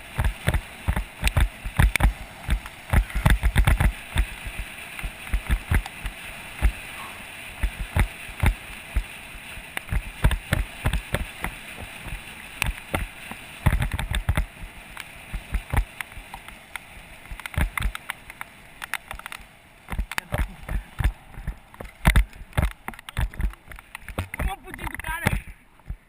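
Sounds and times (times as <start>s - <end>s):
bicycle rattling and knocking: 0.0s - 26.0s
rain hissing: 0.0s - 26.0s
wet tyres hissing: 0.0s - 26.0s.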